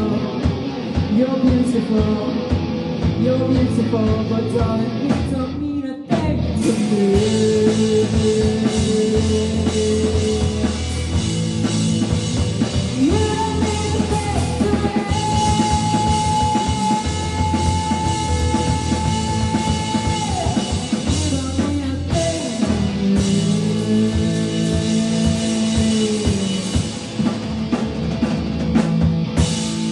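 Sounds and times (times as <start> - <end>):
live rock band playing: 0.0 - 29.9.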